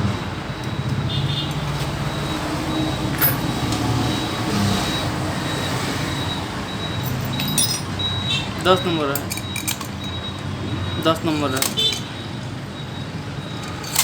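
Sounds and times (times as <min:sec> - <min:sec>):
traffic rumbling past: 0:00.0 - 0:14.0.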